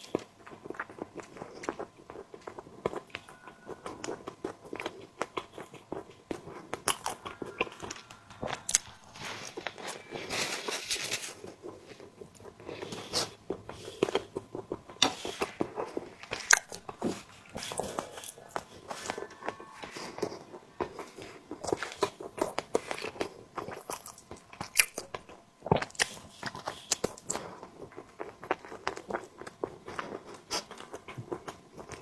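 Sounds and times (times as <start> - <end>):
chewing with wet mouth clicks: 0.0 - 9.0, 11.4 - 32.0.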